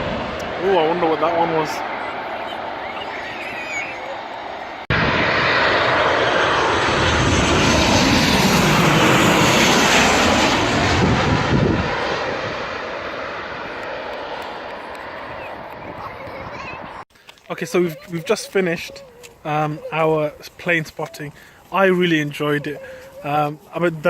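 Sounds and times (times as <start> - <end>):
airliner passing overhead: 0.0 - 24.0.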